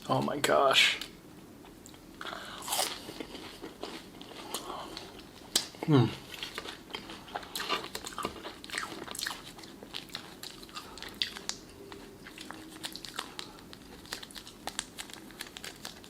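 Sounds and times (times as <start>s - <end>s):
crunchy wet mouth sounds: 1.9s - 16.0s
person chewing crunchy fries: 1.9s - 16.0s.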